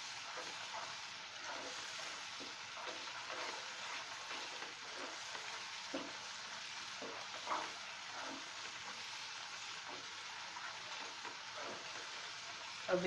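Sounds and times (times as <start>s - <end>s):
spatula scraping a pan: 0.0s - 12.9s
frying hiss in a pan: 0.0s - 13.0s.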